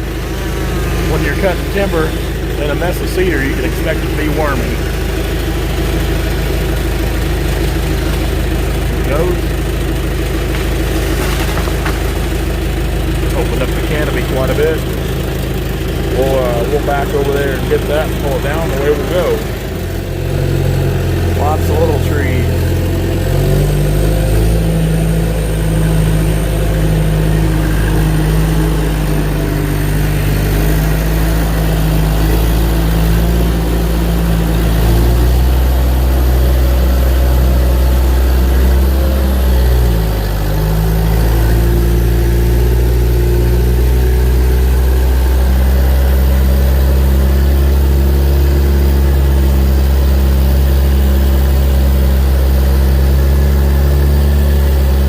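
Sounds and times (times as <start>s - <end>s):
logging machine engine running: 0.0s - 55.0s.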